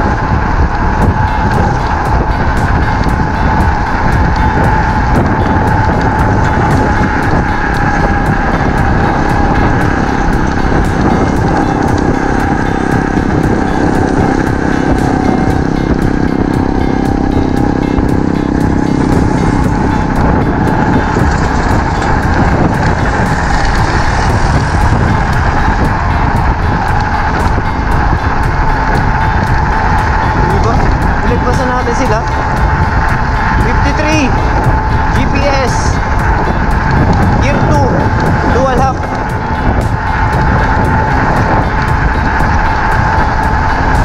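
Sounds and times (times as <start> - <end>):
electric motor whine: 0.0 - 44.0
wind rushing over microphone: 0.0 - 44.0.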